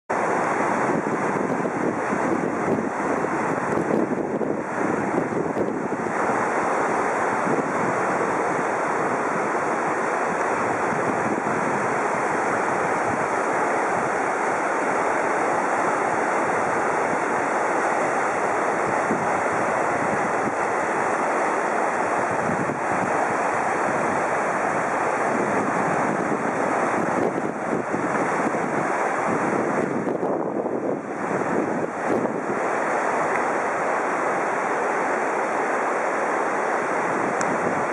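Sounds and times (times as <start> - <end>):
river rapids rushing over rocks: 0.1 - 37.9.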